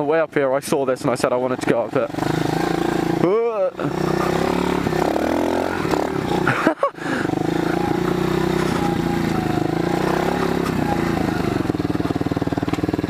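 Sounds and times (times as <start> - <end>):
motorcycle engine idling: 1.0 - 13.0.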